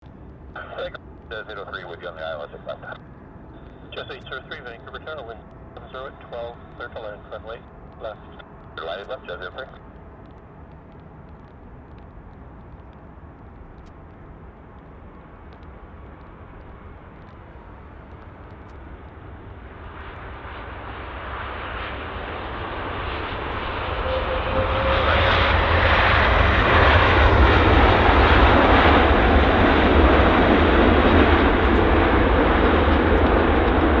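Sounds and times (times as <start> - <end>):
airliner flying past: 0.2 - 34.0.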